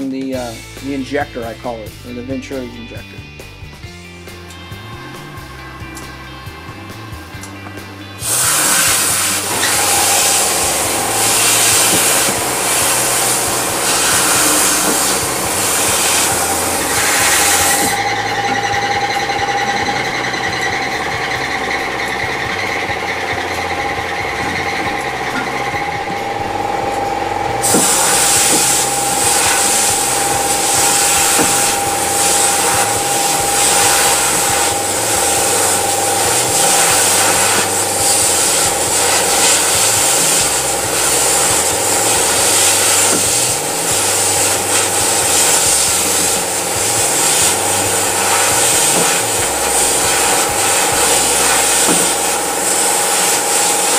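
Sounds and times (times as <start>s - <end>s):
steady tone: 2.8s - 53.9s
sandblast gun hissing: 3.8s - 53.9s.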